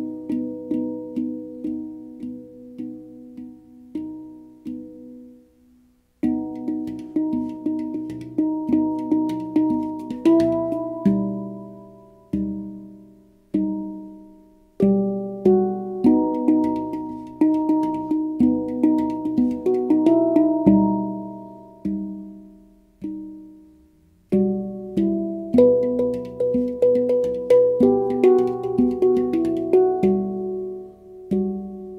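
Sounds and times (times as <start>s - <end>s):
handpan notes ringing: 0.0s - 5.5s, 6.2s - 31.9s.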